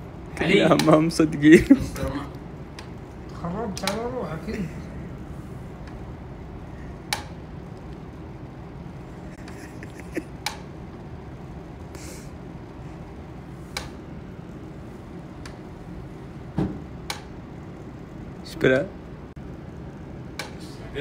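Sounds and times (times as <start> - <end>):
low room rumble: 0.0 - 21.0.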